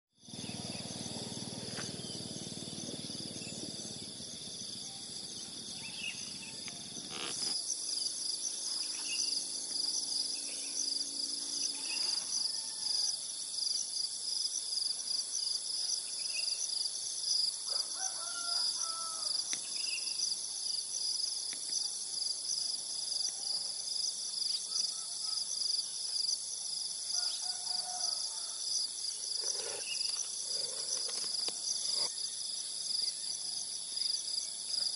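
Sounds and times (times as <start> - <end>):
insects chorus pulsing: 0.2 - 34.9.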